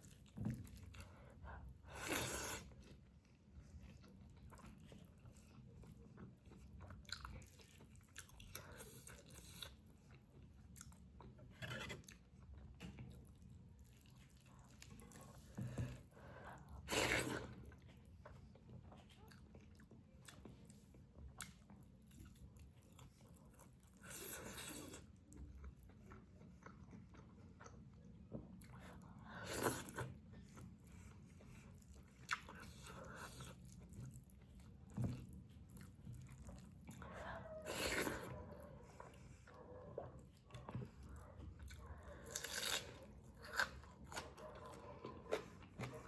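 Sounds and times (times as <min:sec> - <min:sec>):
chewing and mouth sounds: 0:00.0 - 0:46.0.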